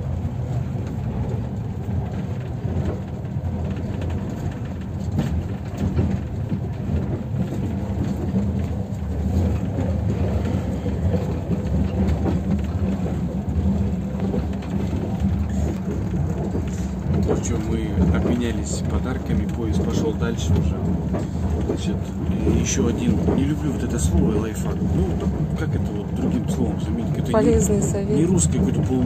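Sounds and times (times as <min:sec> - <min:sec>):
train carriage rumble: 0:00.0 - 0:29.0.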